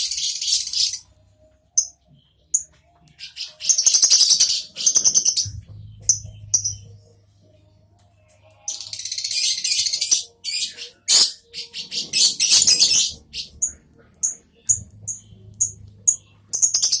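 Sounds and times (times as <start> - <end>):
lovebird chirping: 0.0 - 1.0, 2.6 - 7.1, 8.7 - 17.0.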